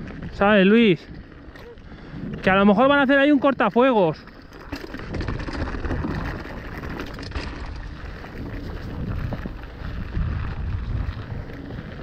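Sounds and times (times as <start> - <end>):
wind buffeting microphone: 0.0 - 3.8, 4.9 - 12.0
bike rattling: 0.0 - 12.0
bike tyres rumbling on stones: 0.0 - 12.0.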